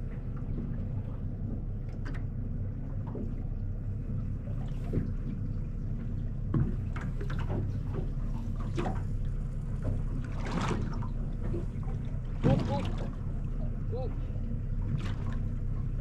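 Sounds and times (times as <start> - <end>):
boat engine humming: 0.0 - 16.0
water splashing against hull: 0.0 - 16.0.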